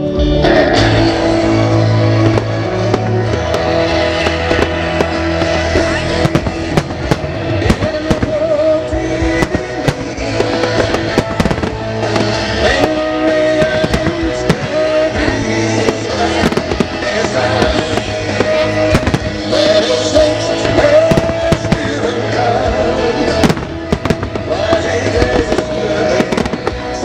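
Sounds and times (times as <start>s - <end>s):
musical theatre music over speakers: 0.0s - 27.0s
fireworks bangs and crackles: 0.8s - 27.0s.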